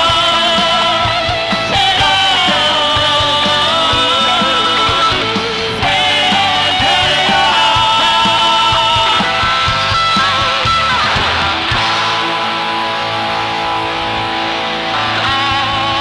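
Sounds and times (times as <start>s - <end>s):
distorted electric guitar: 0.0s - 16.0s
drums: 0.0s - 16.0s
live rock band playing: 0.0s - 16.0s.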